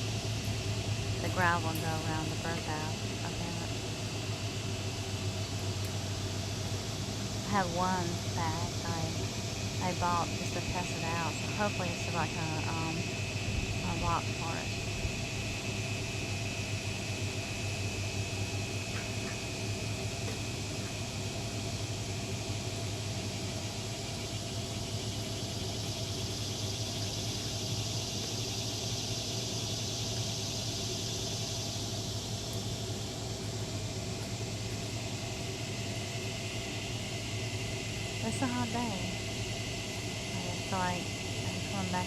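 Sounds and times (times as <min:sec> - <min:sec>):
motor hum: 0:00.0 - 0:42.0.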